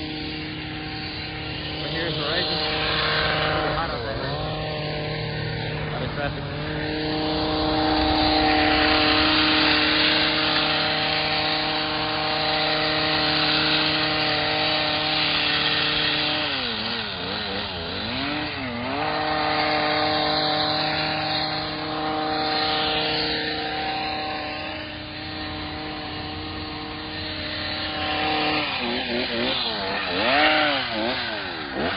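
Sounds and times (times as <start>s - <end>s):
small gas engine running: 0.0s - 31.9s.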